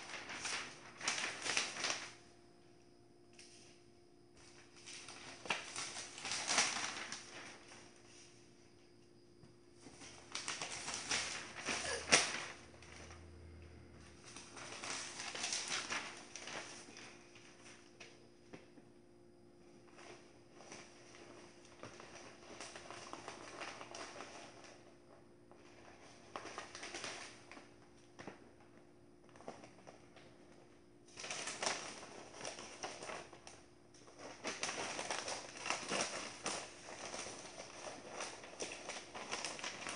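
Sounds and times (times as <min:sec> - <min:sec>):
newspaper rustling: 0:00.0 - 0:02.4, 0:03.3 - 0:08.8, 0:09.7 - 0:18.9, 0:19.7 - 0:39.9.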